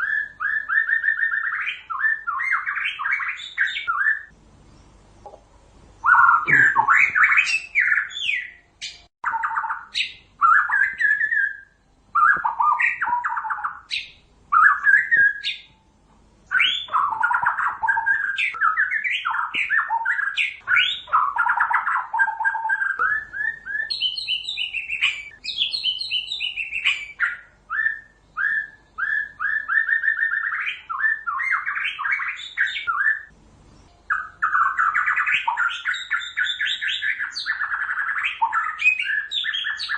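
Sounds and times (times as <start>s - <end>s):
songbird singing trills: 0.0s - 5.4s, 6.0s - 39.9s.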